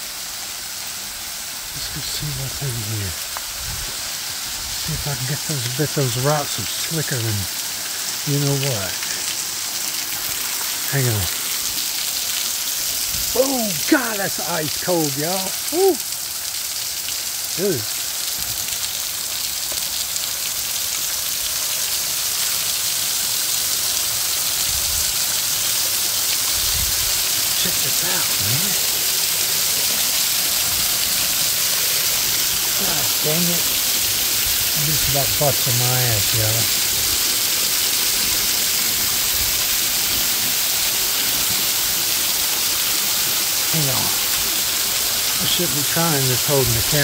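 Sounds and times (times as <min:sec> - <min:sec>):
waterfall splashing on rocks: 0:00.0 - 0:47.0.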